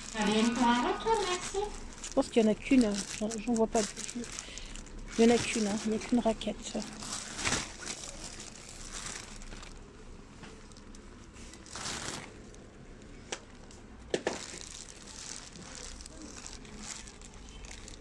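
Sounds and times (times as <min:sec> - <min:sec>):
plastic wrapping crinkling: 0:00.0 - 0:18.0.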